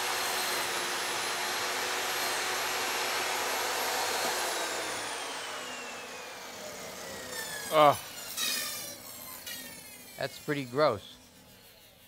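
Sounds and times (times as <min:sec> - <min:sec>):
saw blade cutting foam: 0:00.0 - 0:12.0
table saw motor whine: 0:00.0 - 0:12.0.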